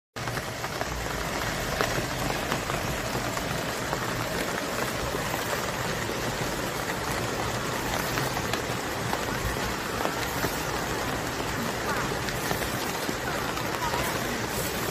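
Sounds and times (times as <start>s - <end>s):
rain on leaves and pond: 0.2s - 14.9s.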